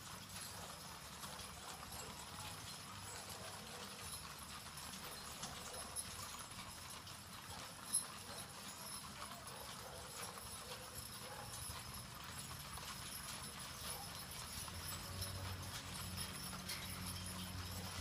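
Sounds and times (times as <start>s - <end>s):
hooves clip-clopping on pavement: 0.0s - 18.0s.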